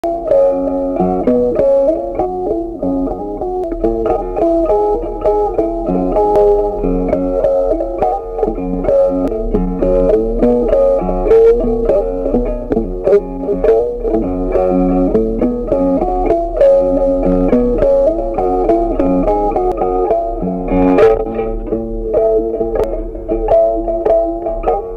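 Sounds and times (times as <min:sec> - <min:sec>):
plucked guitar music: 0:00.0 - 0:24.9.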